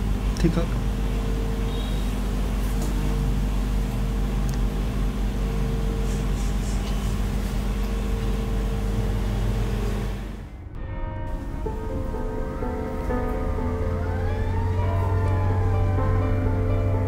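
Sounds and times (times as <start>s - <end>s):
steady humming with low tones: 0.0s - 17.0s.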